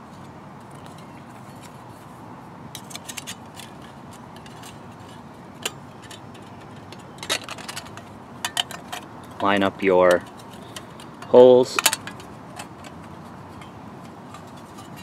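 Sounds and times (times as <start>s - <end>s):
metal panels clicking and scraping: 2.7s - 15.0s.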